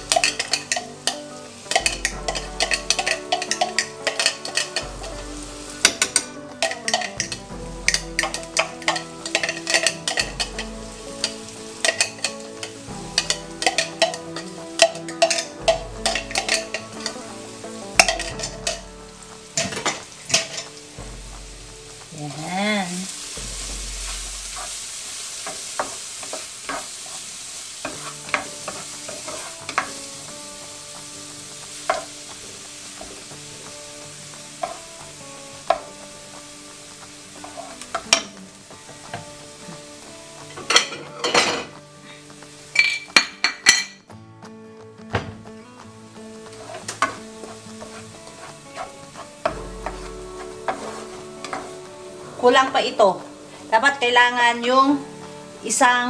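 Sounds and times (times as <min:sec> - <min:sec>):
wooden spatula scraping and tapping pan: 0:00.0 - 0:22.4, 0:23.1 - 0:53.6
garlic and onion sizzling in butter: 0:00.0 - 0:56.0.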